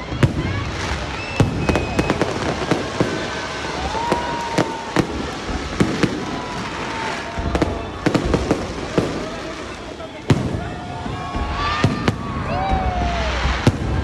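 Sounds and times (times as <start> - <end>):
firework bangs: 0.0 - 14.0
firework crackling: 0.0 - 14.0
rising firework whistle: 0.0 - 14.0.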